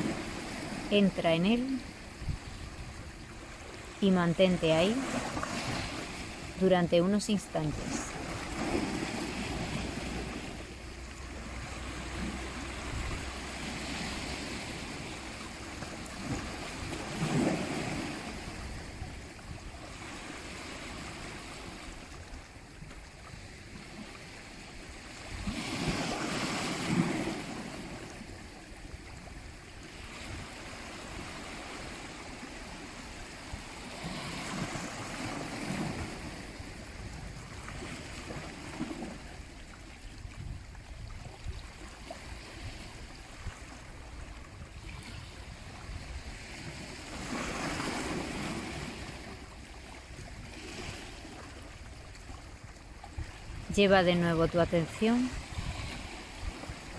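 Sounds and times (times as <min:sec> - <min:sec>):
sea waves breaking on shore: 0:00.0 - 0:56.9.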